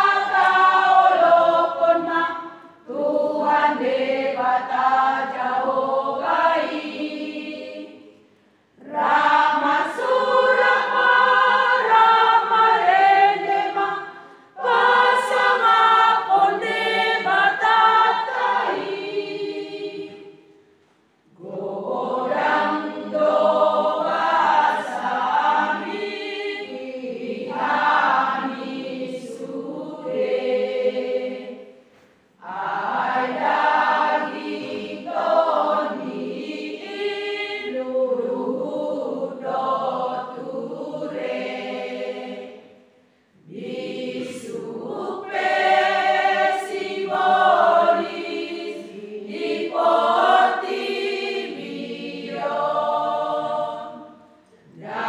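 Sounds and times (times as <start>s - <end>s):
women's choir singing a hymn: 0.0s - 55.0s.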